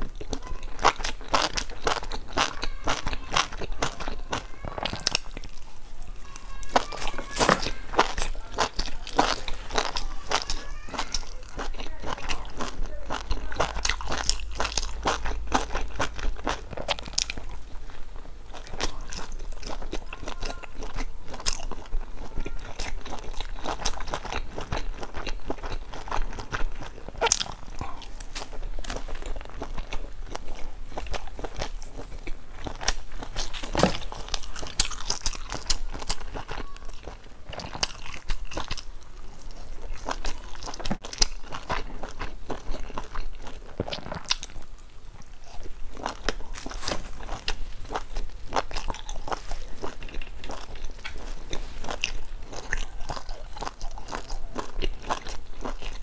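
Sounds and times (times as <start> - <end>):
person crunching and chewing food: 0.0 - 56.0.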